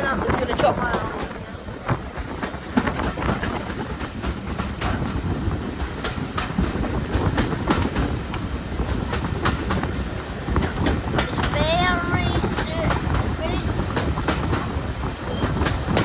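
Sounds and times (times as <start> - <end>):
railway carriage rumble: 0.0 - 16.0
wheels clattering over rails: 0.0 - 16.0.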